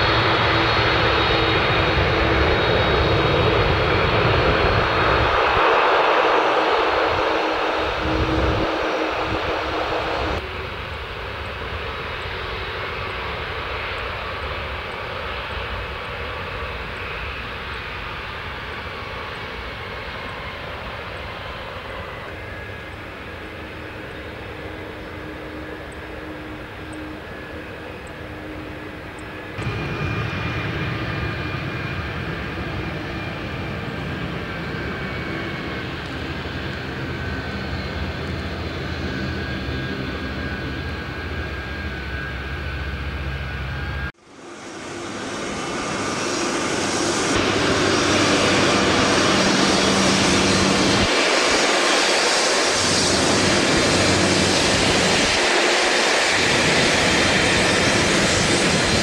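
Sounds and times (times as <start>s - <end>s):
deep jet engine roar: 0.0s - 59.0s
jet engines rumbling and whining: 0.0s - 59.0s.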